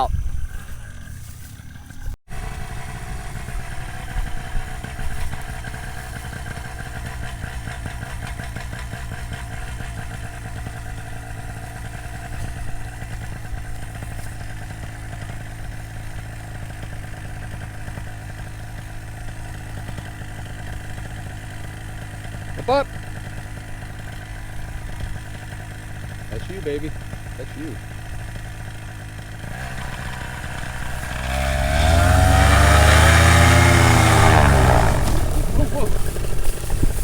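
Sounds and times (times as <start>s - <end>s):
paramotor engine running: 0.0s - 37.0s.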